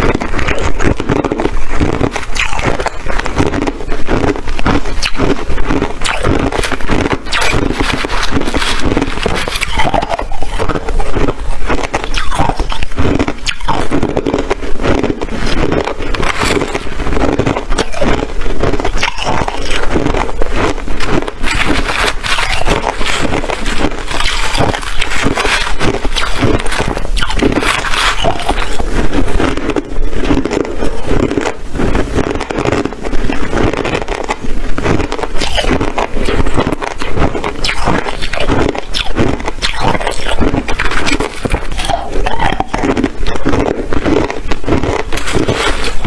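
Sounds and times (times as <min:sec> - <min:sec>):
ice being chewed and crunched: 0:00.0 - 0:46.0.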